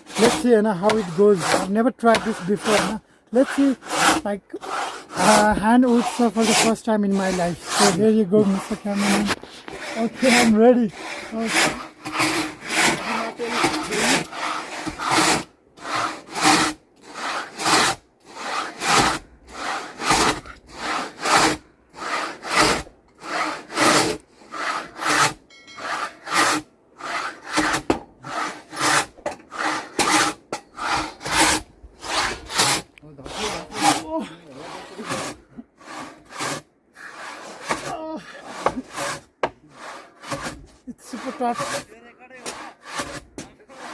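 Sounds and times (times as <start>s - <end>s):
hand saw cutting wood: 0.0s - 43.9s.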